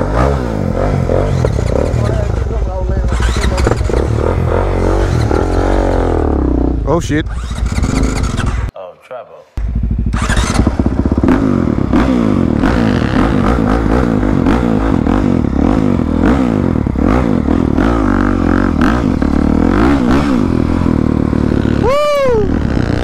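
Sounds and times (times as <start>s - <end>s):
dirt bike engine revving: 0.0s - 8.7s, 9.6s - 23.0s.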